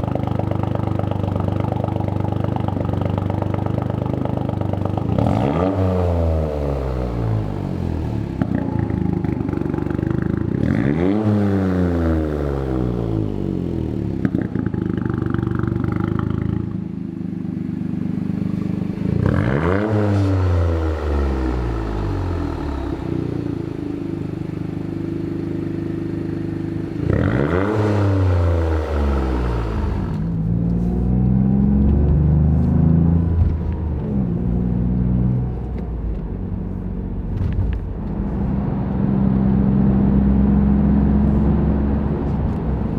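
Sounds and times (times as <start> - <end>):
car engine revving and idling: 0.0 - 42.9.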